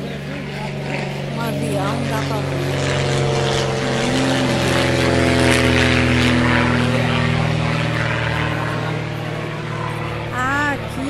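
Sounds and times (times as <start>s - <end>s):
propeller airplane droning overhead: 0.0s - 11.0s.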